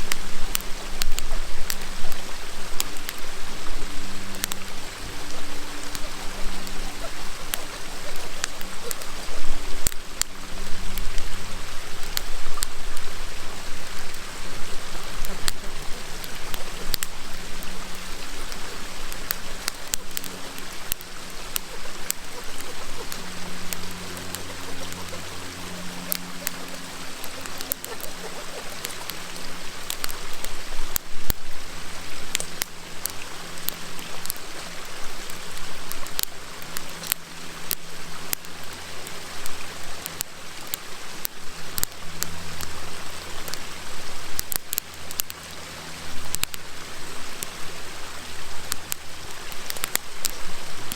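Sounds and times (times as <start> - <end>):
campfire crackling and popping: 0.0 - 50.9
river rushing: 0.0 - 50.9.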